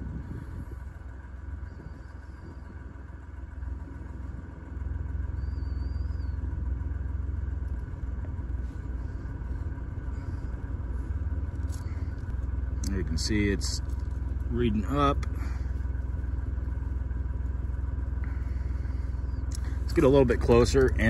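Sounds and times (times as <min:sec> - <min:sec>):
car exhaust rumble idling: 0:00.0 - 0:21.0.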